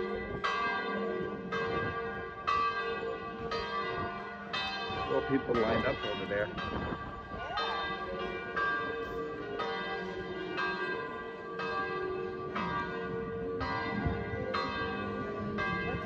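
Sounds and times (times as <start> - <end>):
church bell tolling: 0.0 - 16.0.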